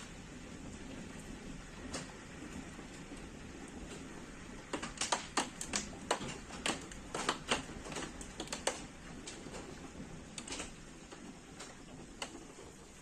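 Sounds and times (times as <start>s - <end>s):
hiss of downpour: 0.0s - 13.0s
hailstones striking hard surfaces: 1.8s - 12.8s.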